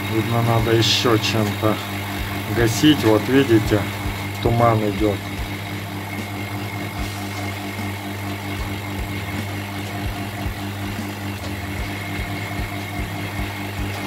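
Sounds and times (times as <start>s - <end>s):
vacuum pump running: 0.0s - 14.0s.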